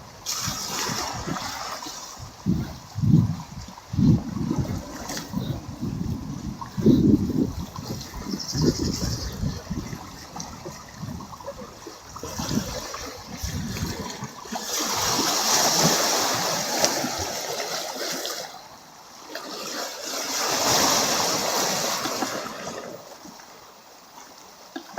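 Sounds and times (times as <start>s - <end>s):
sea waves breaking on shore: 0.0s - 24.9s.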